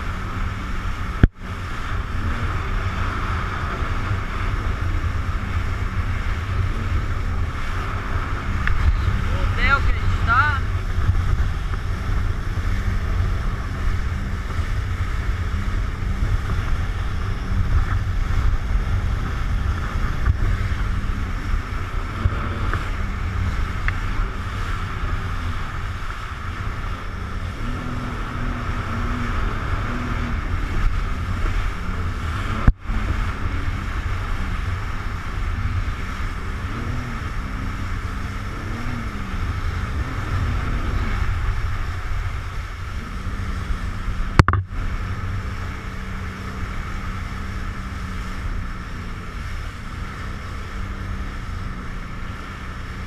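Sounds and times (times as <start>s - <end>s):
jet ski engine: 0.0s - 53.0s
rushing spray: 0.0s - 53.0s
wind buffeting on microphone: 0.0s - 53.0s.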